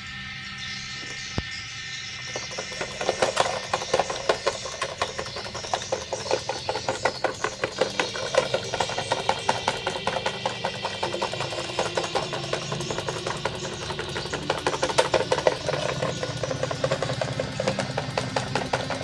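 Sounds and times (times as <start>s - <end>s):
steady motor hum: 0.0s - 19.0s
fan blade knocking rattle: 2.1s - 19.0s.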